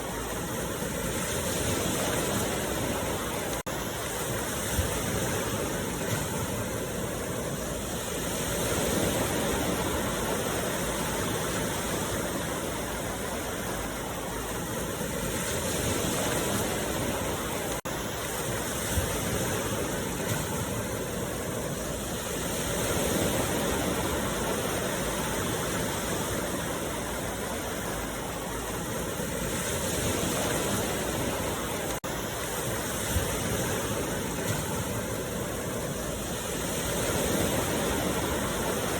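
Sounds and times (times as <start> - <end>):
ocean waves on beach: 0.0 - 38.9.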